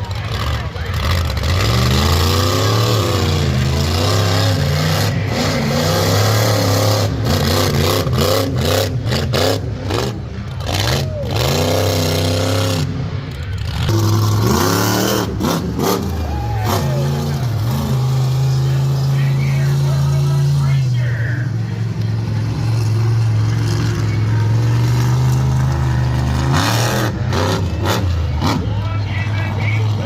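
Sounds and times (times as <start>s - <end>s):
truck engine revving hard: 0.0s - 30.0s.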